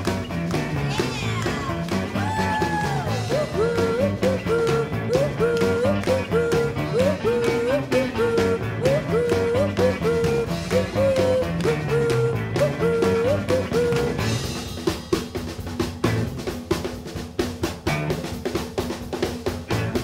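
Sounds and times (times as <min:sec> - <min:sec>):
upbeat rock and roll song: 0:00.0 - 0:20.0.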